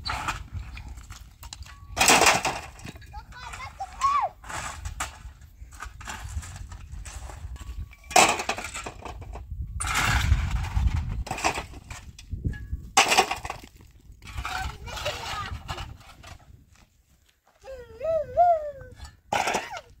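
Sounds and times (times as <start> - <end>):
scraping and crunching rubble: 0.0 - 17.7, 19.0 - 20.0.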